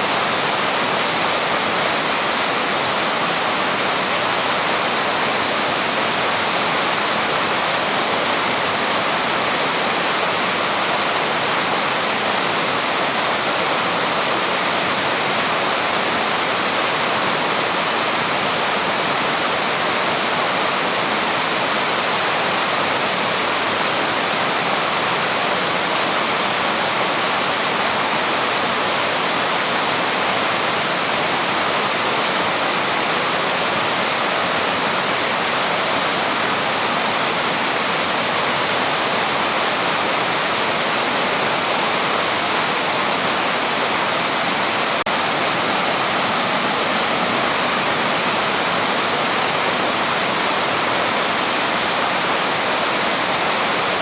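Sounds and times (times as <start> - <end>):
waterfall roar: 0.0 - 54.0.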